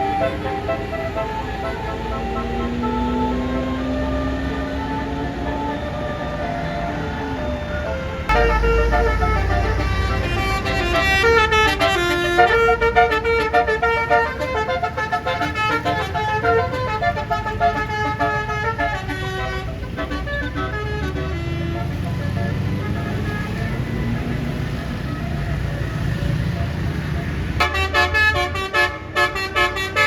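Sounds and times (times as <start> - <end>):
bus air horn melody: 0.0 - 6.7, 7.8 - 26.1, 27.6 - 30.0
low engine rumble: 0.0 - 28.8.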